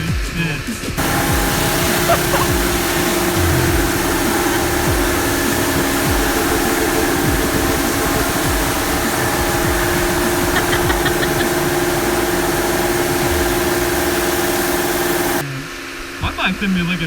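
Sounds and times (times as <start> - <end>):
machinery hum: 1.0 - 15.4
spray hiss: 1.0 - 15.4.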